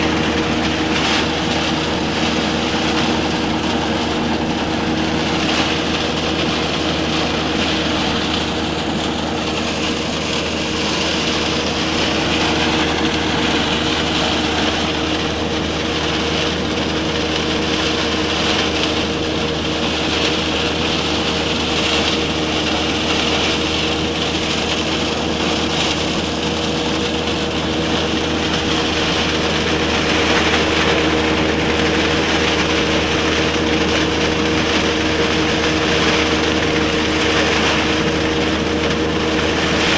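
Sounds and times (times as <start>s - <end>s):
machine engine drone: 0.0s - 39.9s
sieve noise: 0.0s - 39.9s.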